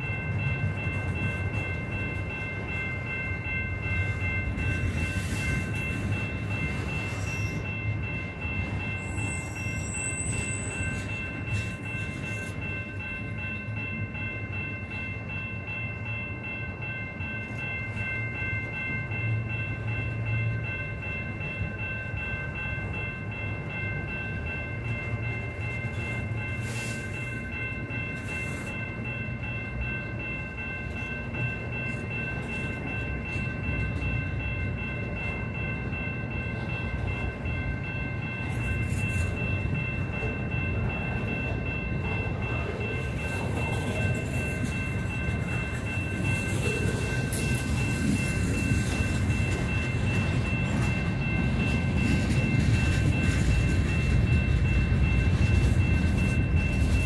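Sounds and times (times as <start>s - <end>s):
freight train rumbling on rails: 0.0s - 57.0s
high-pitched ringing tones: 0.0s - 57.0s.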